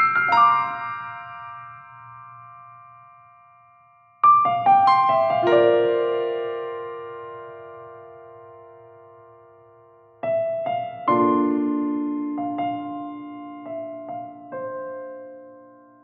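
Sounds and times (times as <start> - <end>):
slow sparse piano: 0.0 - 16.0.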